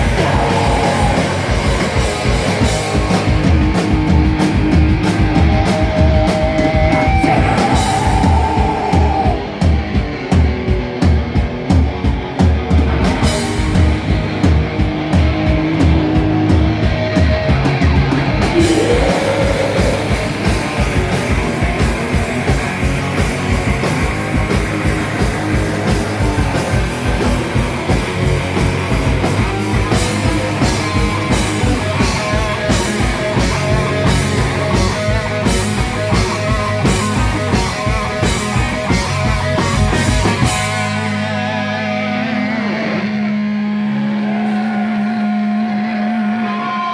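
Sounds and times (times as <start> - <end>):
fast drumming: 0.0 - 41.3
rock band playing: 0.0 - 46.9.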